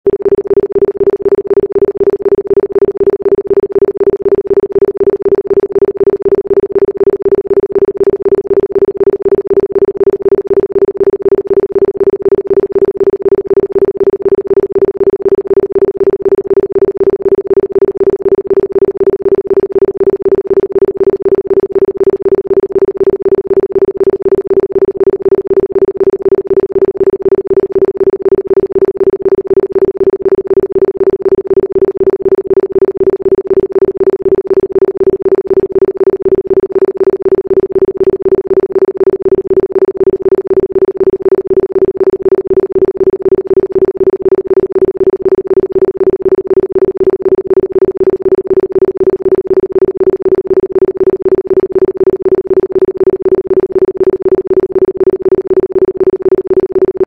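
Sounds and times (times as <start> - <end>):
pulsing electronic tone: 0.1 - 57.0.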